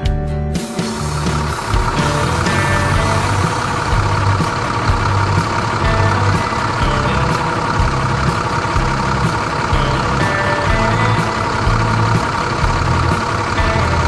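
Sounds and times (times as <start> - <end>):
tractor engine running: 0.6 - 14.0.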